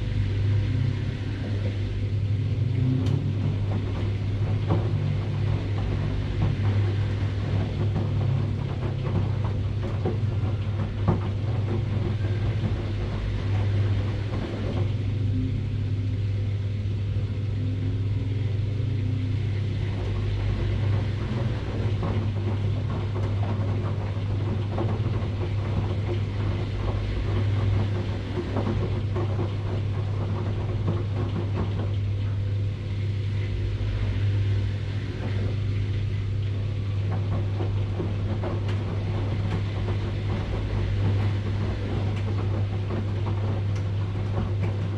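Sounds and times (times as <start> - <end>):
washing machine humming: 0.0 - 44.9.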